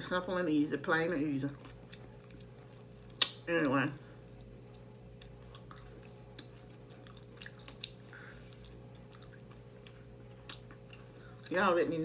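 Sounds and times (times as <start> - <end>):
steady low hum: 0.0 - 12.0
chewing and gnawing: 1.5 - 11.8.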